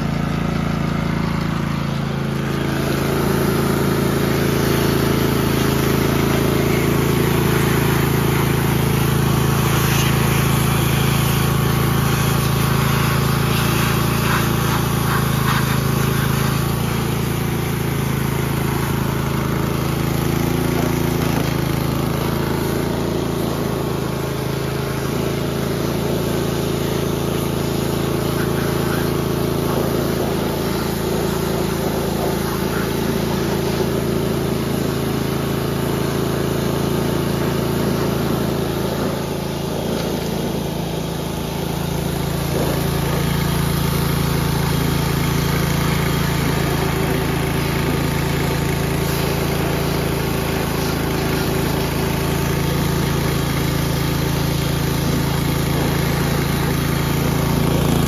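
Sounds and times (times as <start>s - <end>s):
lawn mower engine running: 0.0s - 58.0s
pressure washer spray hissing: 0.0s - 58.0s.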